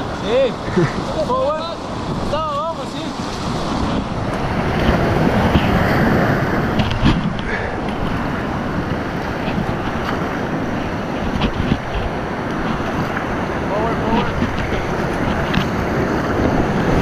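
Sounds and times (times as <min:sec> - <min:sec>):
whitewater rushing: 0:00.0 - 0:17.0
wind buffeting microphone: 0:00.0 - 0:17.0.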